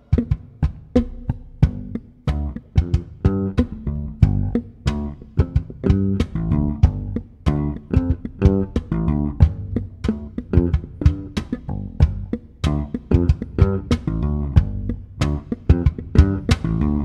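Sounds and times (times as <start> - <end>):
electric bass played percussively: 0.0 - 17.0.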